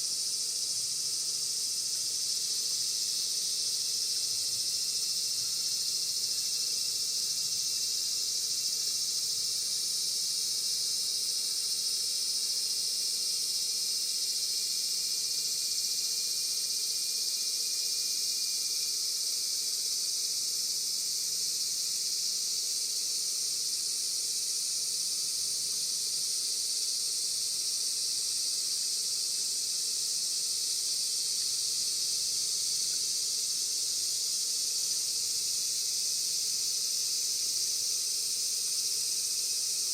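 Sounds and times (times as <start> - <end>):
insects buzzing drone: 0.0 - 39.9.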